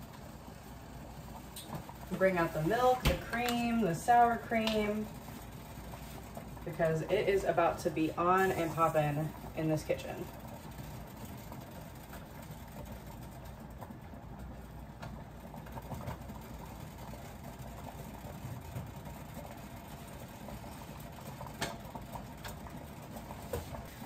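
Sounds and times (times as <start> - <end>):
pot boiling hard: 0.0 - 24.0.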